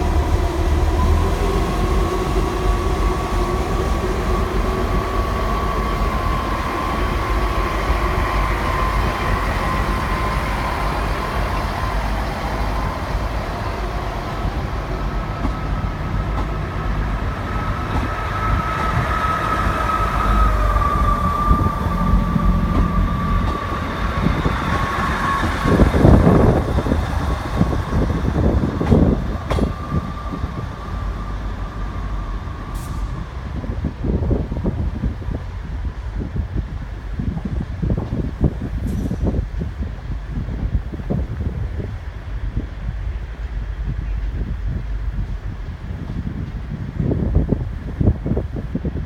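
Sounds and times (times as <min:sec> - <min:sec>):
diesel train rumble and whine: 0:00.0 - 0:49.0.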